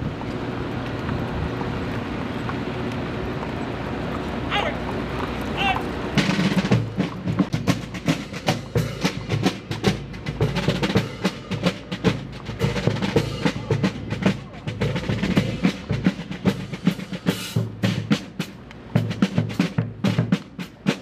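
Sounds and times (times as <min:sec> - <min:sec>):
marching snare and bass drums: 0:00.0 - 0:21.0.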